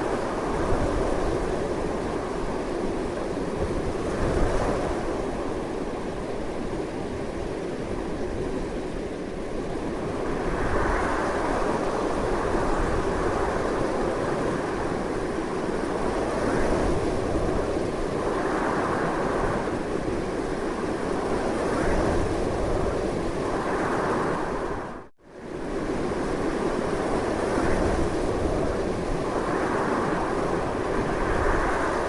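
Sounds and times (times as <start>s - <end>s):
strong wind gusting: 0.0s - 32.0s.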